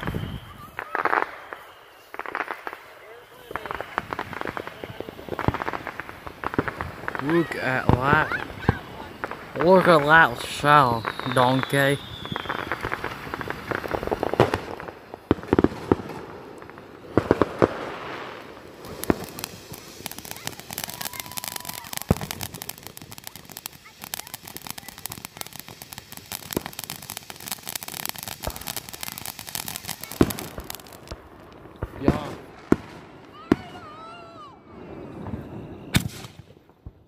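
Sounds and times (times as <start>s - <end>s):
firework pops: 0.0s - 33.7s, 35.2s - 37.0s
firework crackling: 0.0s - 37.0s.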